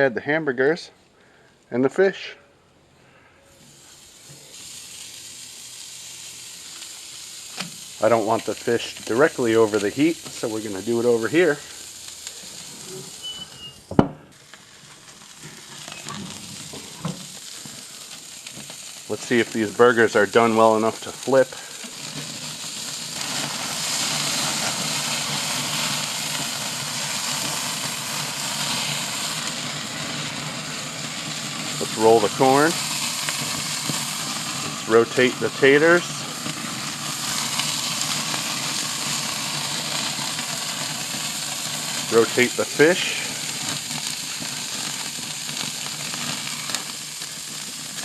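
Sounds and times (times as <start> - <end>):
patties sizzling on a grill: 3.1 - 48.0.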